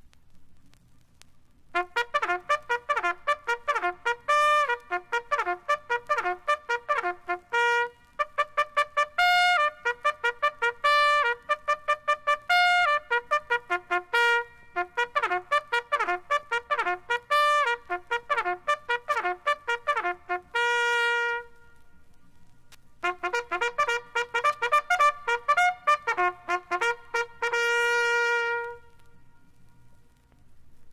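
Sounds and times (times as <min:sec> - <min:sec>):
trumpet playing staccato runs: 0:01.7 - 0:22.3, 0:23.0 - 0:29.2.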